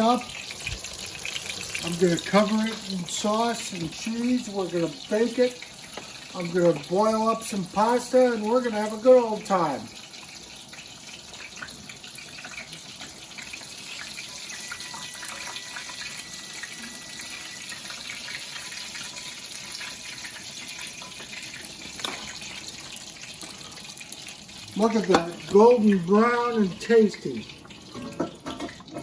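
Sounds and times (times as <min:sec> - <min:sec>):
chicken frying in oil: 0:00.0 - 0:29.0.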